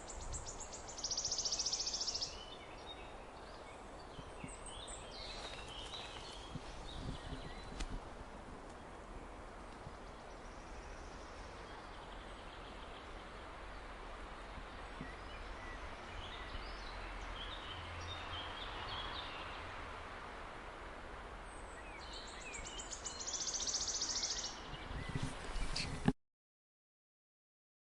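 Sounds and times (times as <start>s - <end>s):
outdoor background hiss: 0.0s - 26.2s.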